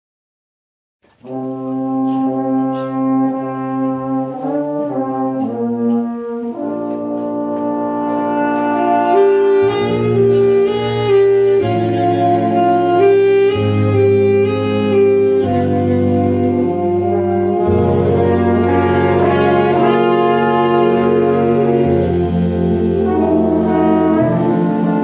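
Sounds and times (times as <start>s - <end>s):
big band horns playing chords: 1.2s - 25.0s
low bass notes: 1.3s - 25.0s.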